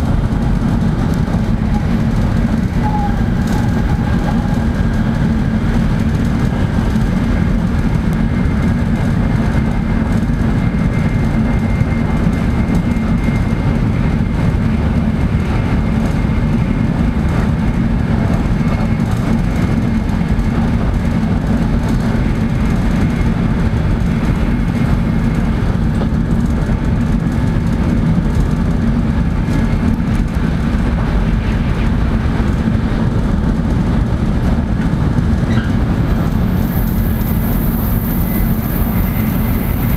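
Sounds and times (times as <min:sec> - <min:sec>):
train cabin low rumble: 0:00.0 - 0:39.9.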